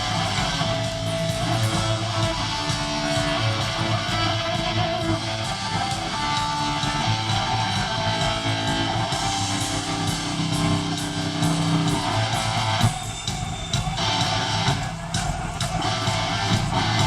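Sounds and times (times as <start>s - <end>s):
loud punk band playing: 0.0s - 17.0s.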